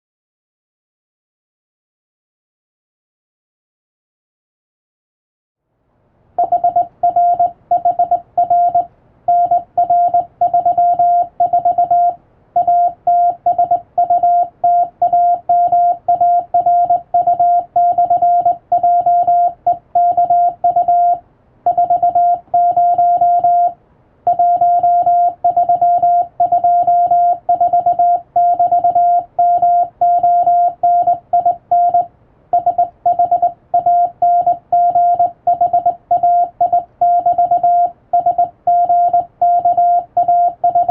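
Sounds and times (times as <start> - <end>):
morse code tone: 6.4 - 40.9.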